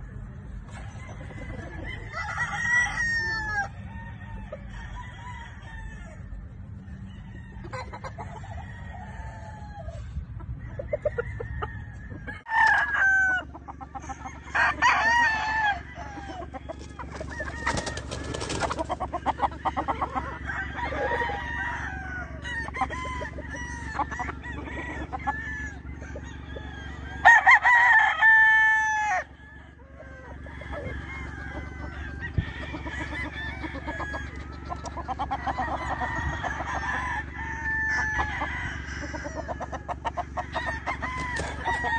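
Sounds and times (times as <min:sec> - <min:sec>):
roosters crowing and clucking: 0:00.0 - 0:41.9
loud rooster crow: 0:00.7 - 0:41.9.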